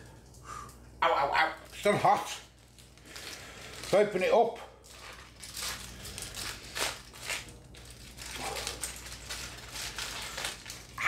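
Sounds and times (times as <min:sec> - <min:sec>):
wrapping crinkling and rustling: 0:01.6 - 0:11.0.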